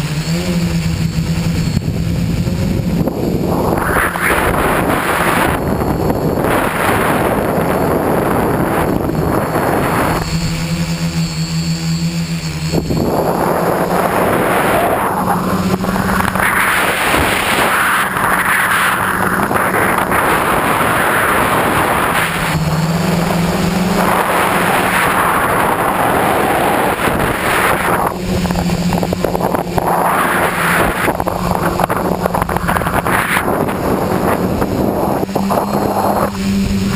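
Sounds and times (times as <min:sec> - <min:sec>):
drone motors humming: 0:00.0 - 0:36.9
wind rush on microphone: 0:00.0 - 0:36.9.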